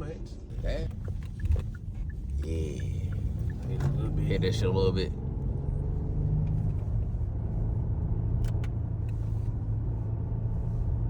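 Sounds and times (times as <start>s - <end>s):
car cabin engine and road drone: 0.0s - 11.0s.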